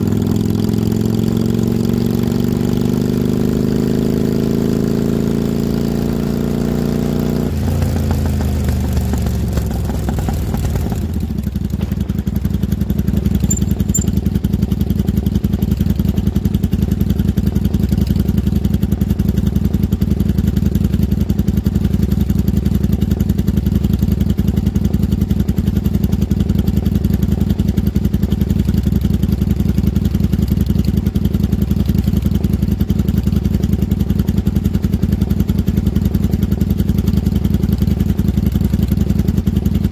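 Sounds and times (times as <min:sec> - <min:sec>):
motorcycle engine winding down and idling: 0:00.0 - 0:39.9.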